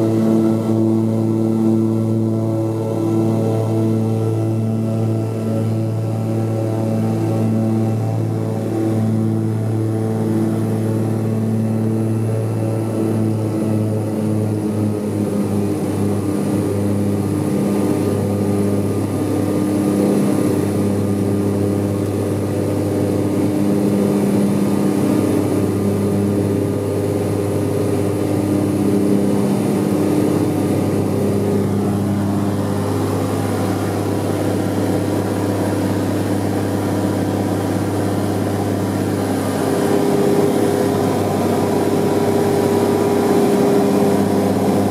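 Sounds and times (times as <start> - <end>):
aircraft engines droning: 0.0 - 44.9.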